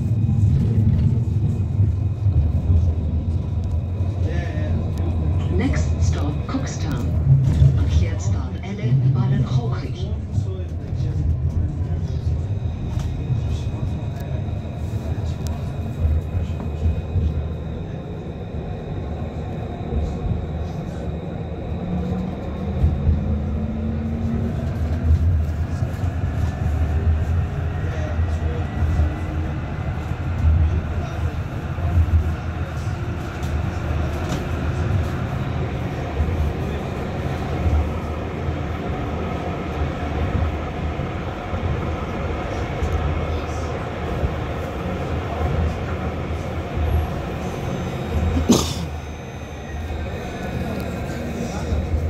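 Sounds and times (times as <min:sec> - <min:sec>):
tram running gear rumble: 0:00.0 - 0:52.0.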